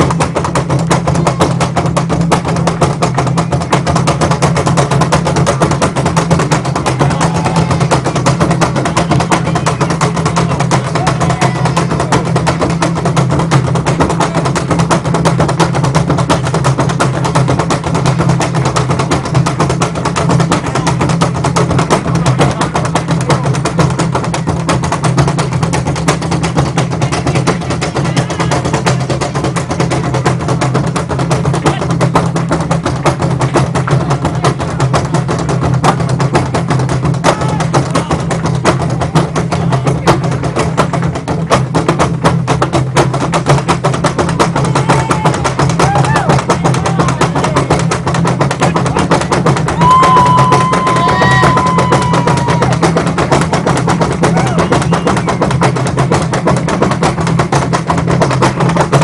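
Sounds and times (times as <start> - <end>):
drum ensemble playing: 0.0 - 59.0.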